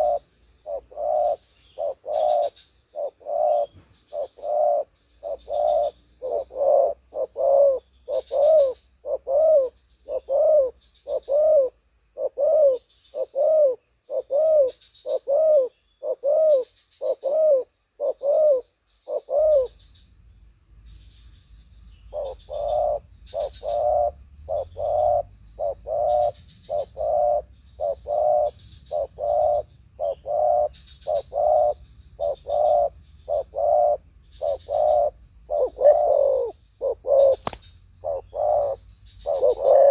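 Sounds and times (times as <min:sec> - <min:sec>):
doves cooing: 0:00.0 - 0:19.8, 0:22.1 - 0:39.9.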